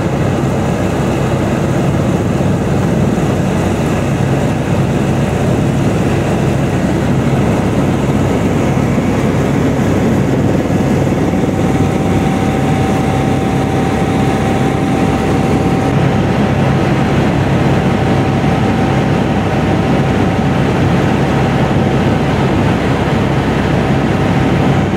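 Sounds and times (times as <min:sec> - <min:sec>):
helicopter rotor and turbines droning: 0:00.0 - 0:24.9
thin steady whine: 0:00.0 - 0:24.9.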